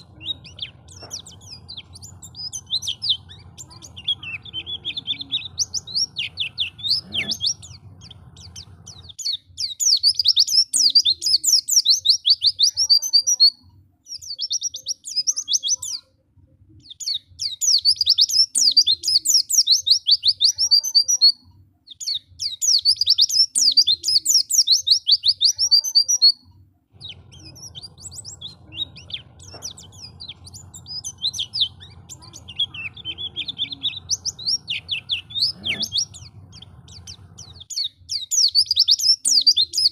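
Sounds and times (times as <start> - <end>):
bird twittering: 0.0 - 16.1, 16.8 - 26.4, 27.0 - 39.9
soft bird chirps: 0.0 - 39.9.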